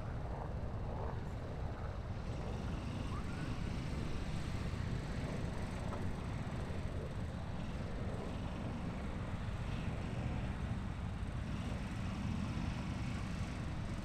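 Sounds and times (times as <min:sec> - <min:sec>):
distant boat engines: 0:00.0 - 0:14.0.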